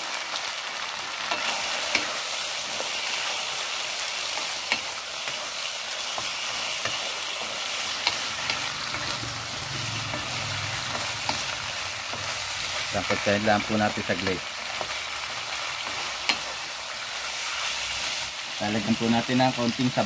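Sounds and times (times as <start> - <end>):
meat sizzling in wok: 0.0 - 20.0.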